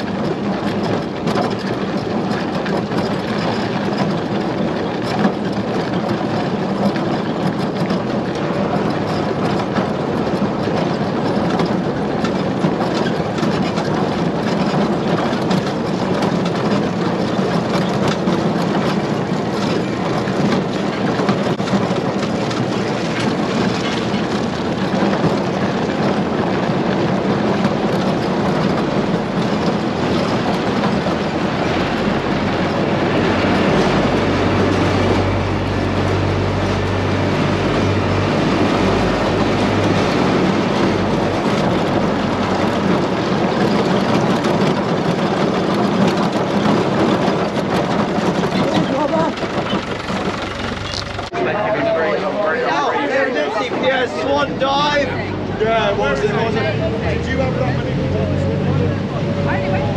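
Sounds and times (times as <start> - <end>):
towed trailer rattling on gravel: 0.0 - 51.5, 53.5 - 59.9
tractor engine running: 0.0 - 59.9.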